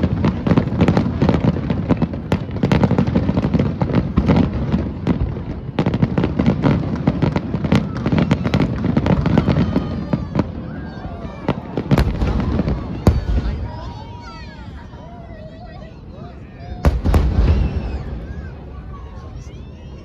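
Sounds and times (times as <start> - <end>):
firework bursts and crackling: 0.0 - 20.0.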